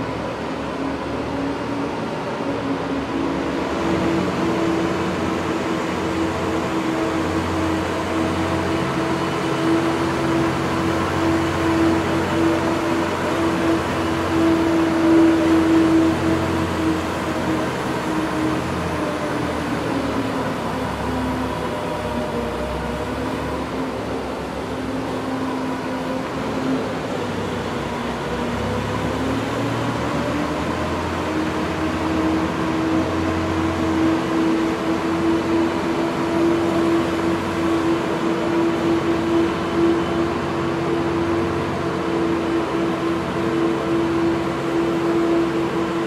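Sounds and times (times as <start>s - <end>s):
ice resurfacer engine hum: 0.0s - 46.0s.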